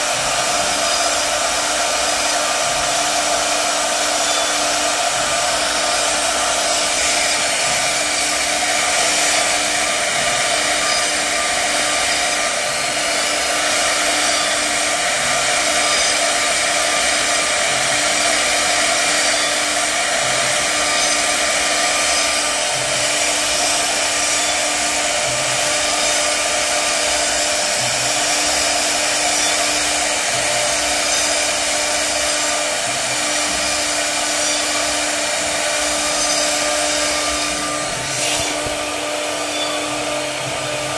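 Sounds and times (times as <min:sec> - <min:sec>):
router spindle whine: 0:00.0 - 0:40.9
wood cutting rush: 0:00.0 - 0:40.9.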